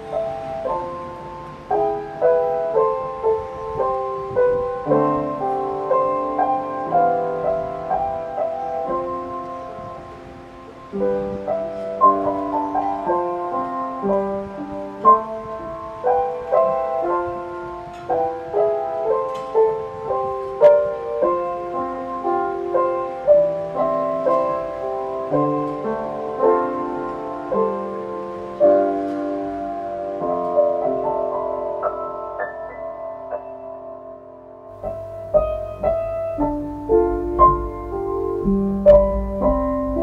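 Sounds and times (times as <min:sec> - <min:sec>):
piano melody with chords: 0:00.0 - 0:40.0.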